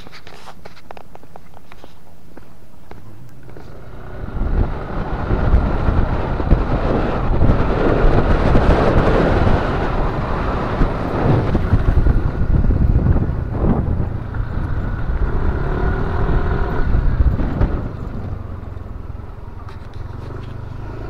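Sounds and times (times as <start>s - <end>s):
wind buffeting microphone: 2.9s - 21.0s.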